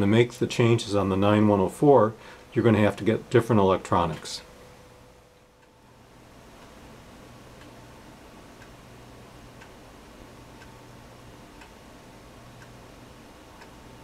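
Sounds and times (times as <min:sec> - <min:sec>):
low steady hum and hiss: 0:00.0 - 0:14.0
soft ticking: 0:02.4 - 0:14.0.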